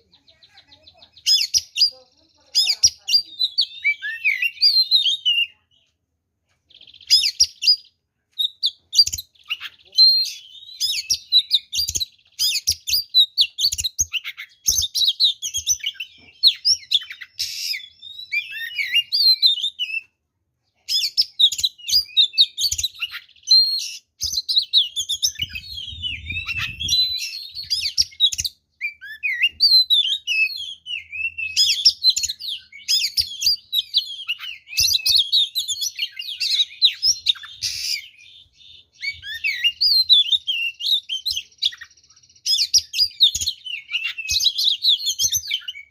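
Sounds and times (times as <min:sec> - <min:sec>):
songbird singing whistles and trills: 0:00.0 - 0:05.9, 0:06.7 - 0:20.2, 0:20.8 - 0:45.9.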